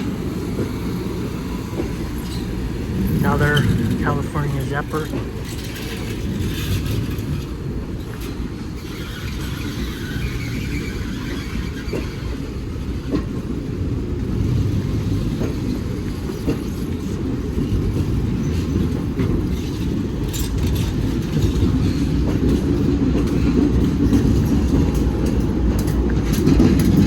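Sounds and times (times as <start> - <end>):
train rumbling on track: 0.0 - 27.0
wheels clicking over rail joints: 0.0 - 27.0.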